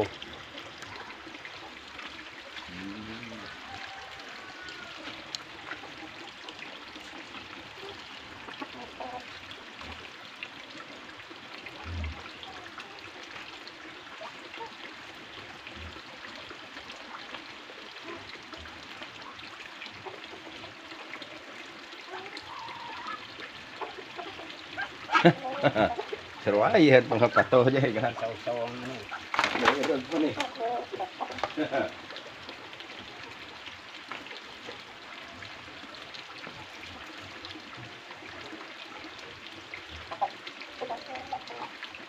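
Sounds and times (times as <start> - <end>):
trickle of running water: 0.0 - 42.0.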